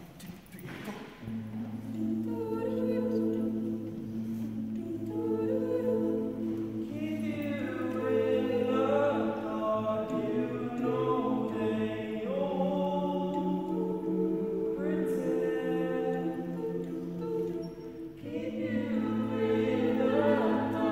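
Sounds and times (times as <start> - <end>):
vocal group singing chords: 1.1 - 20.9.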